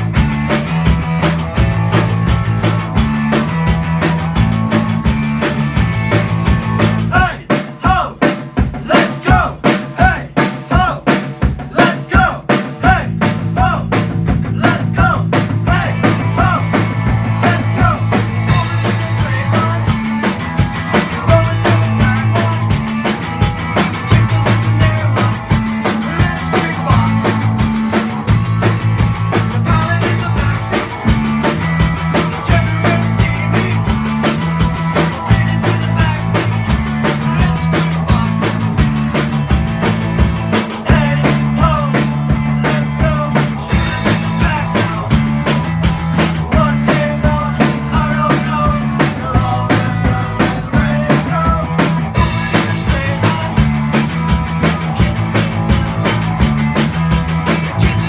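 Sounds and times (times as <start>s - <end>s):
bass line: 0.0s - 8.0s, 8.8s - 58.0s
drum kit steady beat: 0.0s - 58.0s.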